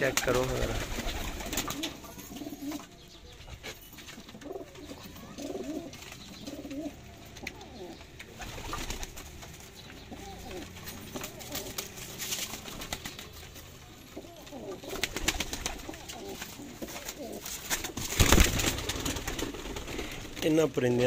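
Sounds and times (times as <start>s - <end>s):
pigeons cooing: 0.0s - 20.4s.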